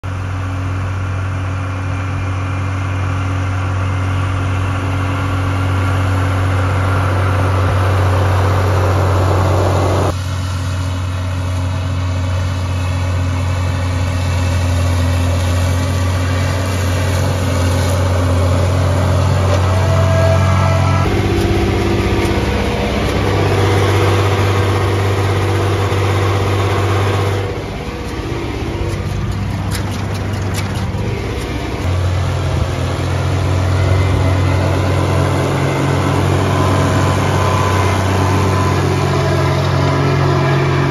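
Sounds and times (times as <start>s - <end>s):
tractor diesel engine drone: 0.0s - 40.9s.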